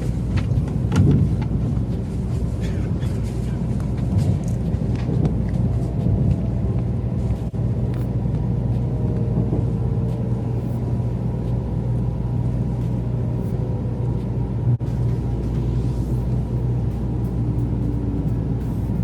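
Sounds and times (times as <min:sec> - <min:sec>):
train cabin rumble: 0:00.0 - 0:19.0.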